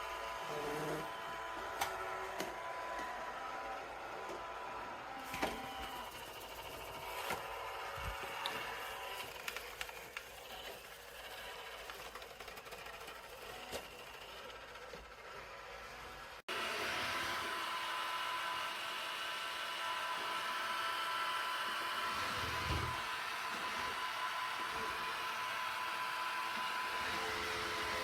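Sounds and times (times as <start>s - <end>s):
robot vacuum whirring: 0.0s - 28.0s.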